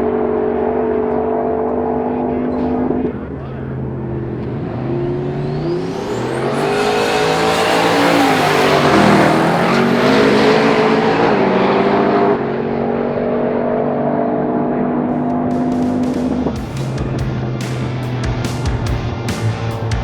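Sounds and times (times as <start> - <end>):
drag car engine accelerating: 0.0 - 20.0.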